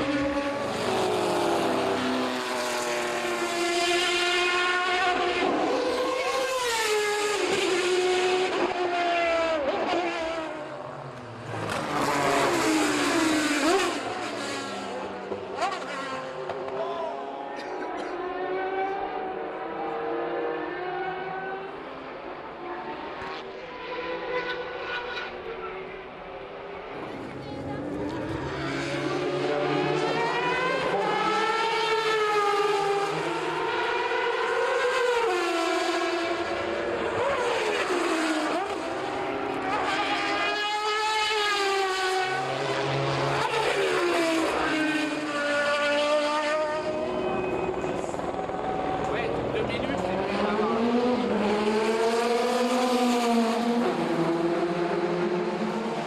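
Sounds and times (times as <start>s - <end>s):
race car engines revving high: 0.0s - 56.0s.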